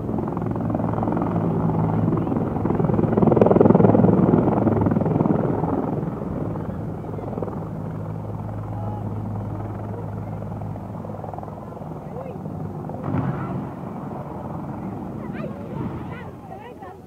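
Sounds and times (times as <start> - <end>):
helicopter engine hum: 0.0 - 17.0.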